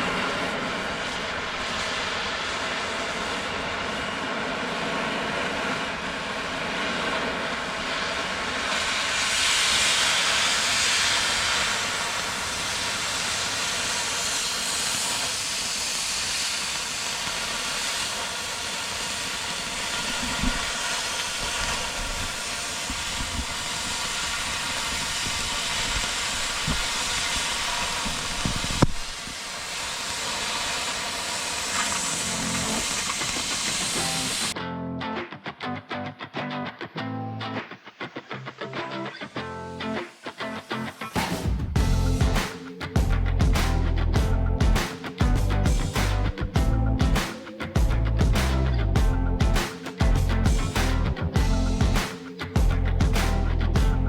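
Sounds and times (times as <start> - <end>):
loud hiss of air and fan: 0.0 - 34.6, 41.2 - 54.0.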